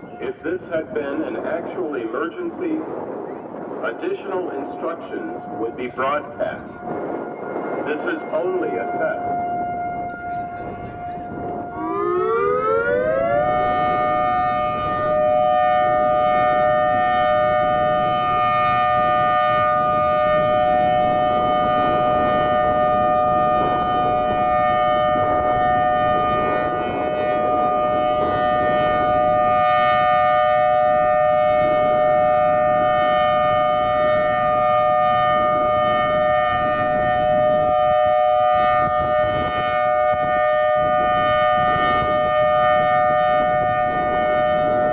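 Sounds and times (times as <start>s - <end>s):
warning siren two-note chord: 6.6s - 44.9s.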